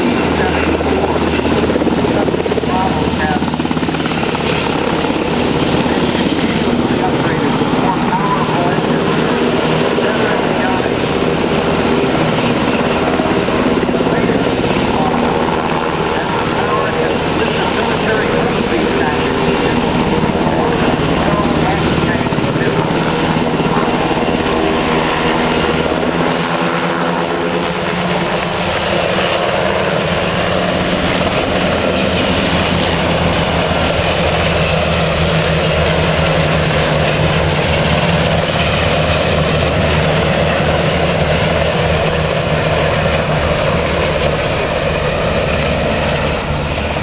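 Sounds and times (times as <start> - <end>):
helicopter flying past: 0.0 - 47.0.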